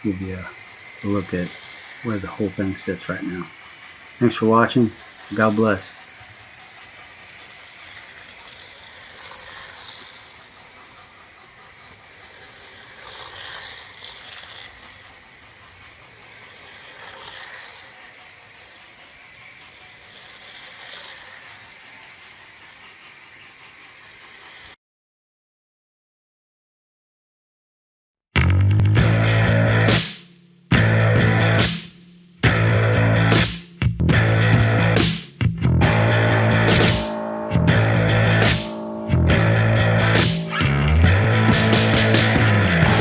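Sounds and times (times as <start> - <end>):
model cars and trains whirring: 0.0 - 24.8, 28.4 - 43.0.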